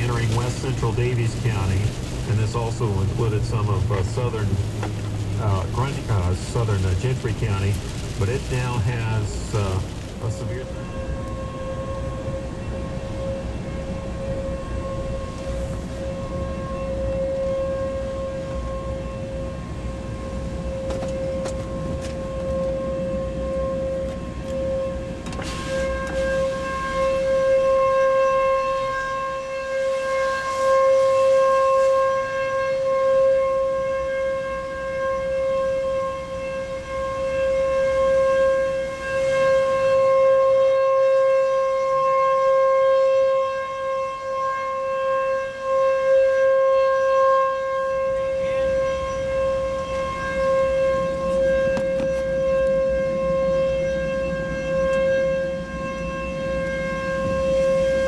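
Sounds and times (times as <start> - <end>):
tornado warning siren: 0.0 - 58.0.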